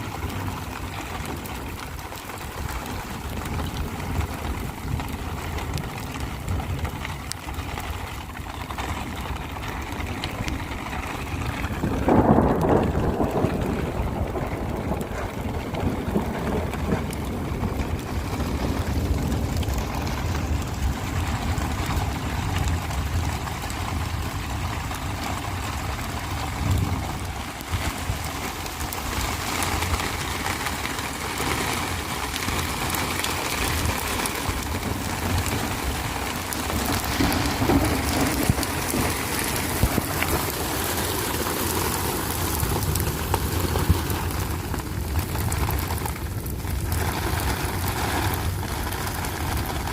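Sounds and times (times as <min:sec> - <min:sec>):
rain hissing: 0:00.0 - 0:49.9
wind rumble on microphone: 0:00.0 - 0:49.9.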